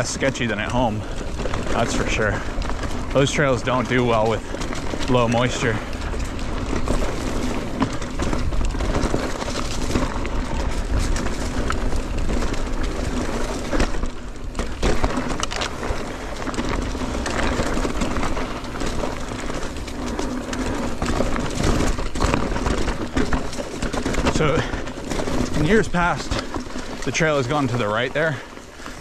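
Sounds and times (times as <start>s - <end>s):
bike knocking and rattling: 0.0s - 29.0s
bike tyres on dirt trail: 0.0s - 29.0s.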